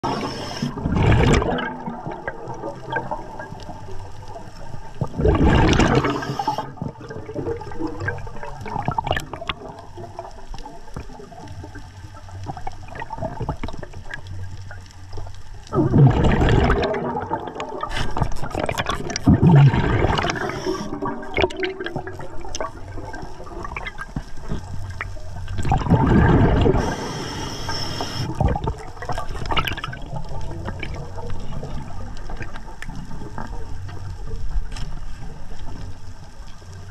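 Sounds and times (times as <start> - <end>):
underwater air bubbles rushing: 0.0 - 36.9.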